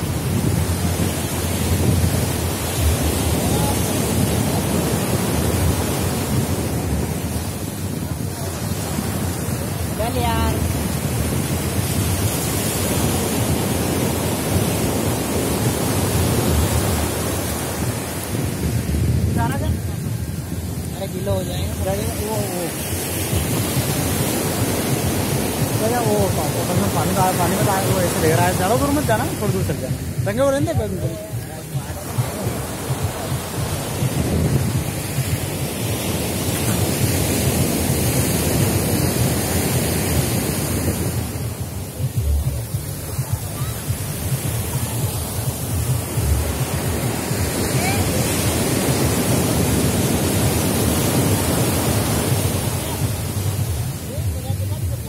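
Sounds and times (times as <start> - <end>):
sea surf breaking on sand: 0.0 - 55.0
wind buffeting microphone: 0.0 - 55.0.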